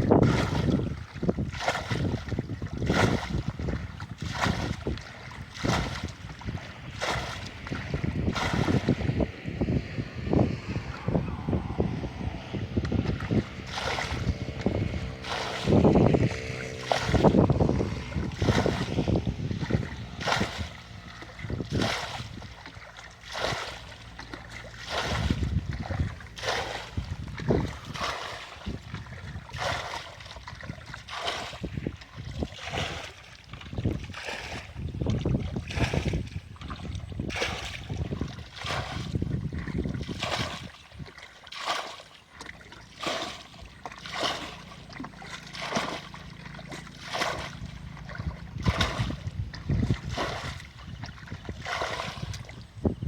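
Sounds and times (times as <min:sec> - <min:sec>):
water splashing in short strokes: 0:00.0 - 0:53.0.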